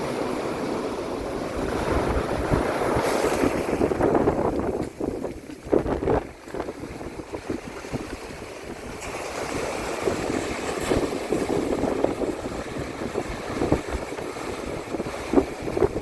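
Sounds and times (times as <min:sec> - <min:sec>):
waves breaking on shore: 0:00.0 - 0:16.0
wind buffeting microphone: 0:00.0 - 0:16.0.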